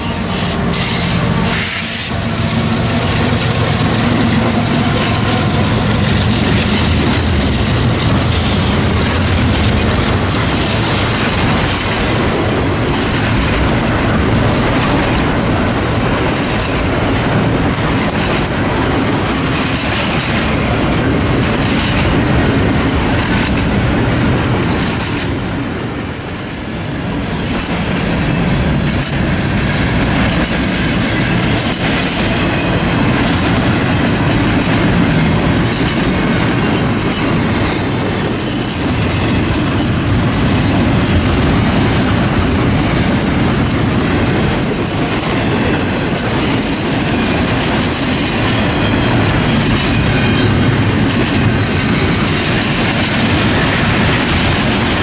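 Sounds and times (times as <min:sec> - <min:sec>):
diesel locomotive engines humming: 0:00.0 - 0:55.0
train wheels clacking over rail joints: 0:00.0 - 0:55.0.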